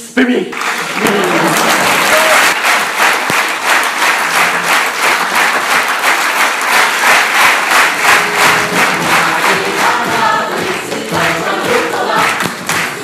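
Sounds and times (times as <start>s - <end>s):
audience applauding: 0.5s - 13.0s.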